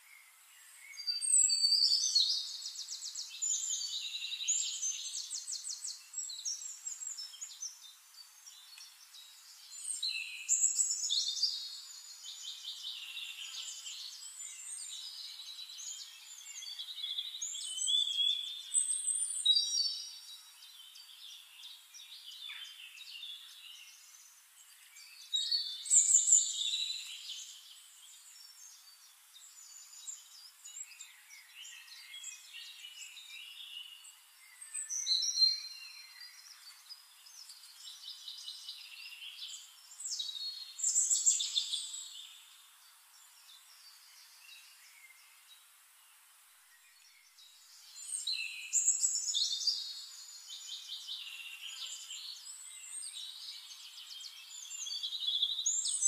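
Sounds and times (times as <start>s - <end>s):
birds chirping and singing: 0.6s - 45.7s, 46.7s - 56.0s.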